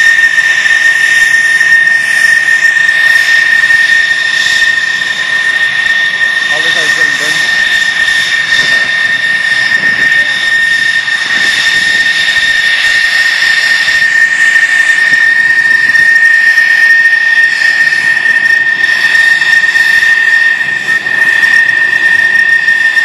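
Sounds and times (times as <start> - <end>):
jet engine whine and roar: 0.0 - 23.0.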